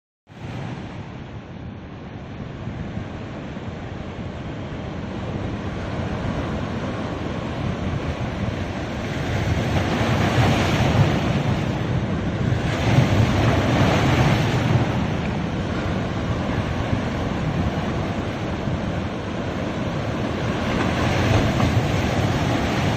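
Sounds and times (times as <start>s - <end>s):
ocean waves breaking on beach: 0.3s - 22.9s
wind rumbling on microphone: 0.3s - 22.9s.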